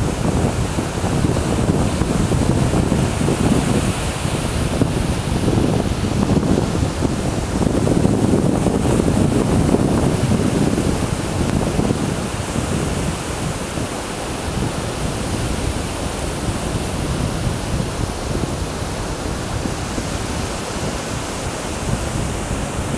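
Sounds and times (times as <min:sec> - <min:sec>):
sea surf: 0:00.0 - 0:22.9
wind on microphone: 0:00.0 - 0:22.9.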